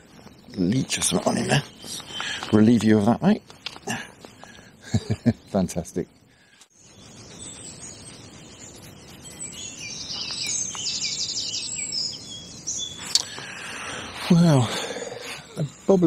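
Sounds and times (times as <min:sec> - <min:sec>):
songbirds singing: 0:00.0 - 0:16.0
steady background hiss: 0:00.0 - 0:16.0.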